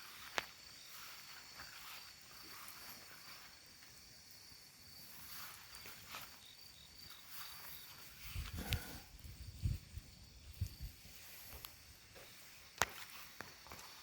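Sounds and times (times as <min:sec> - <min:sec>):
insects trilling: 0:00.0 - 0:14.0
campfire crackling and popping: 0:01.4 - 0:14.0.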